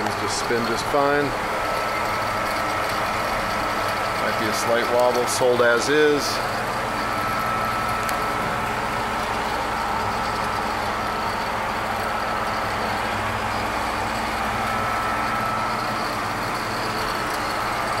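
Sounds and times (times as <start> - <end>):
bench grinder motor running: 0.0 - 18.0.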